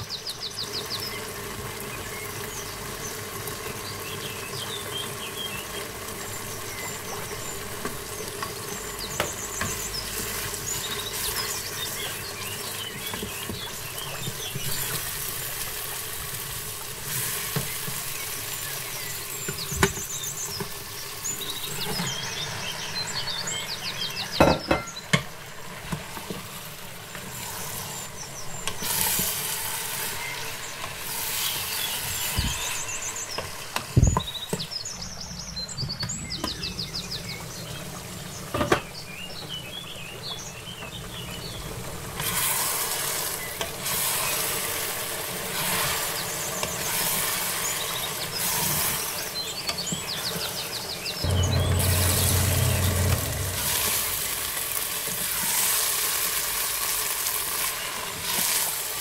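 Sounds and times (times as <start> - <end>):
spices sizzling in oil: 0.0 - 34.9, 37.2 - 59.0.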